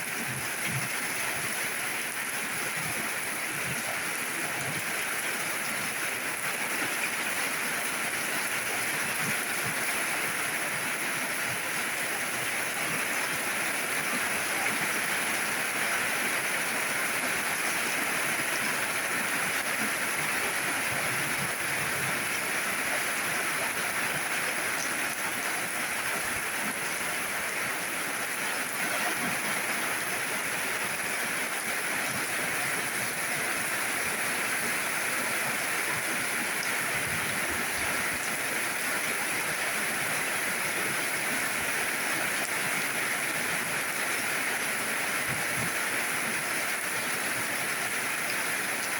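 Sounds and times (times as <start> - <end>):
steady rainfall hiss: 0.0 - 48.9.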